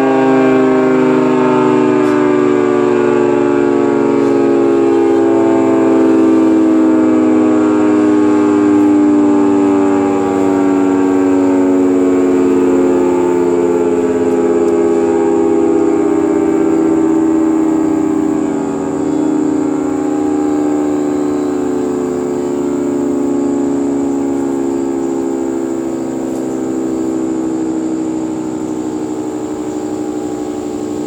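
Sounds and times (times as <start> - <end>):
two-tone warning siren wail: 0.0 - 31.0.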